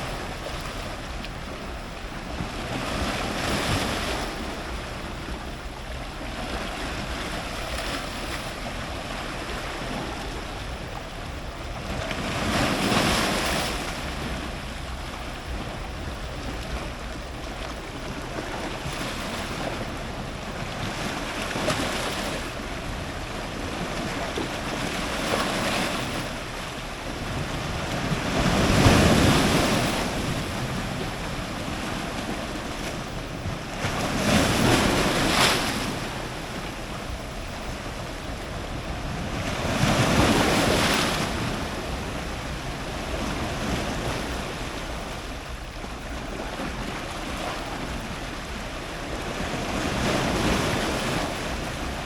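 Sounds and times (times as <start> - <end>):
large waves crashing: 0.0 - 52.0
steady wash of water: 0.0 - 52.0.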